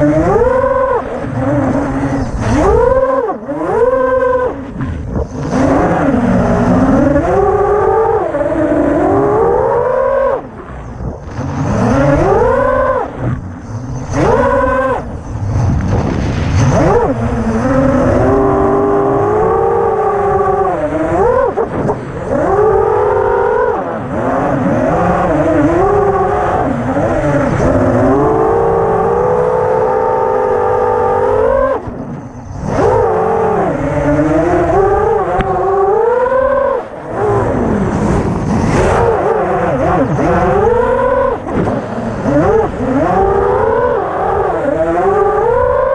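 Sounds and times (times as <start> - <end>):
quadcopter motors whining: 0.0 - 15.7, 16.6 - 45.9.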